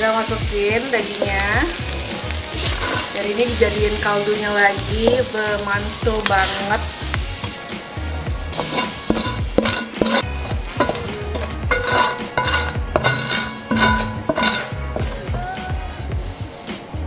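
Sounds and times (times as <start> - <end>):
meat sizzling in a pan: 0.0 - 15.6
background music with steady beat: 0.0 - 17.0
spatula scraping a pan: 1.0 - 7.9, 8.5 - 15.4.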